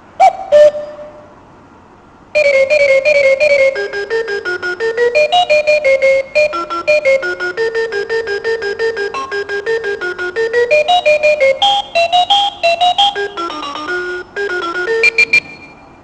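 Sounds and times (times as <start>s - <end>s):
alarm clock beeping melody: 2.4s - 15.8s.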